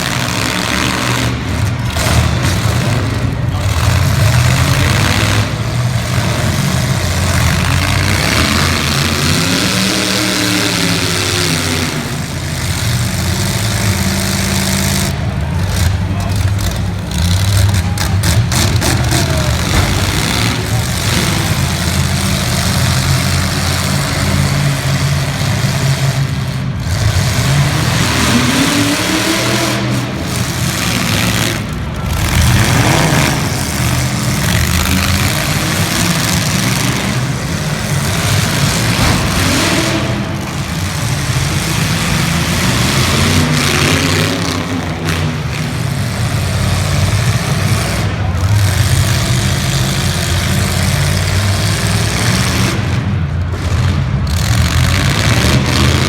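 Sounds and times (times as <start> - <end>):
car engines running loud: 0.0 - 56.0
engine revving: 0.0 - 56.0.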